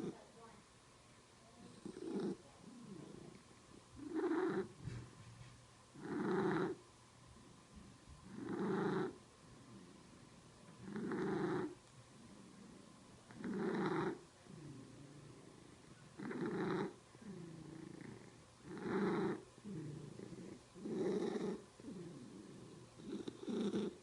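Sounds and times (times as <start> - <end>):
cat purring: 0.0 - 0.3, 1.5 - 24.0.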